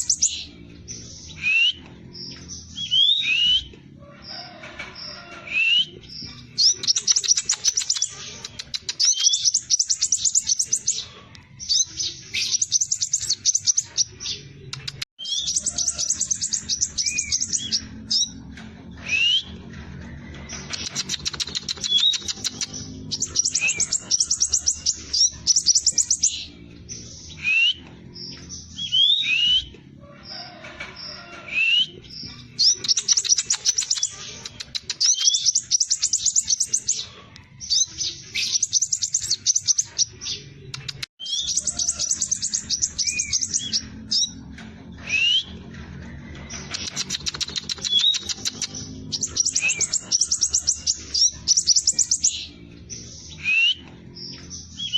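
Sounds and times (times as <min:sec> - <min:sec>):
bird singing rapid trills: 0:00.0 - 0:03.7, 0:05.8 - 0:18.4, 0:20.5 - 0:29.7, 0:31.9 - 0:44.4, 0:46.5 - 0:54.9.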